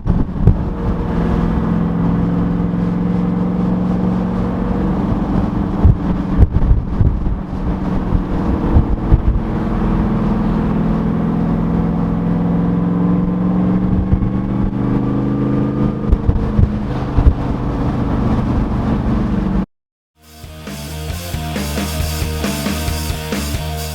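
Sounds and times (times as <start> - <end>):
car engine running: 0.0 - 23.9.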